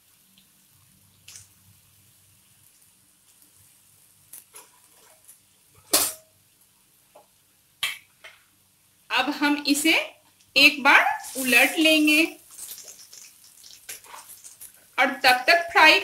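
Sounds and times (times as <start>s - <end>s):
potatoes frying in oil: 0.0s - 16.0s.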